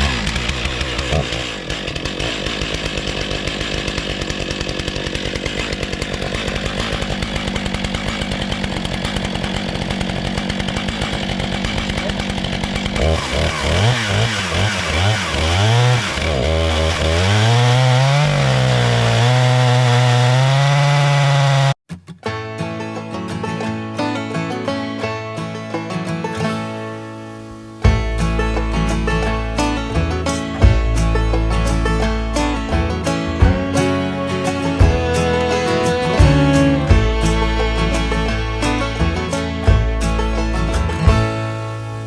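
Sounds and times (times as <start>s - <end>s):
chainsaw cutting wood: 0.0s - 21.8s, 27.3s - 42.0s.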